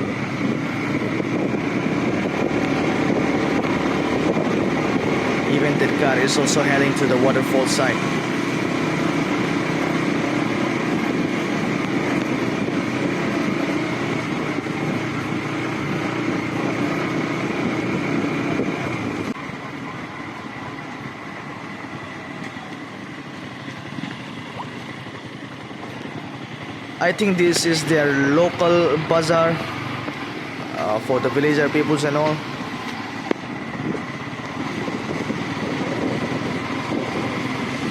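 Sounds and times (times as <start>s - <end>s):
motorcycle engine running: 0.0s - 37.9s
wind and road noise: 0.0s - 37.9s.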